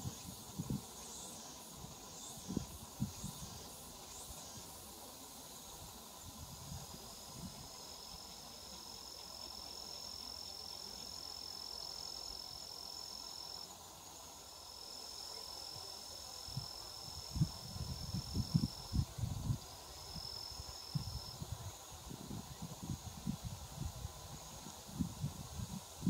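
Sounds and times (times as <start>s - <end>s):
insect high-pitched buzz: 0.0s - 26.0s
quiet open-air background: 0.0s - 26.0s.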